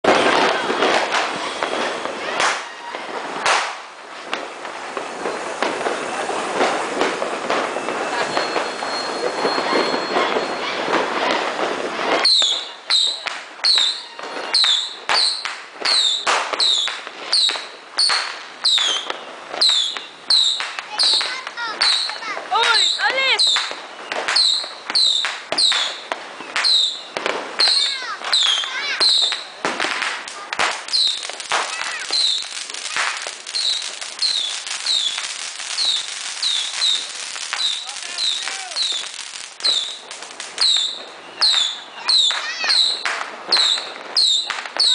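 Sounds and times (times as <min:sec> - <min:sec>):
fireworks popping: 0:00.0 - 0:44.9
fireworks whistling: 0:00.0 - 0:44.9.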